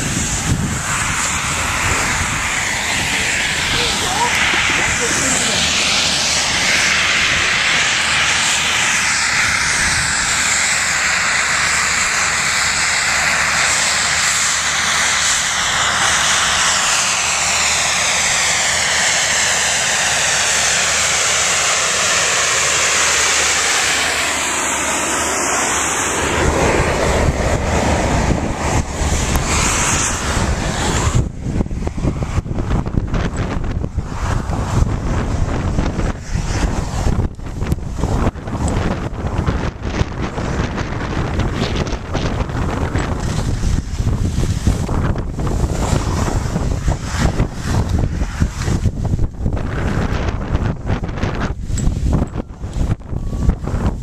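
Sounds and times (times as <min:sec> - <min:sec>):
snowmaking gun hissing: 0:00.0 - 0:54.0
wind buffeting microphone: 0:00.0 - 0:54.0.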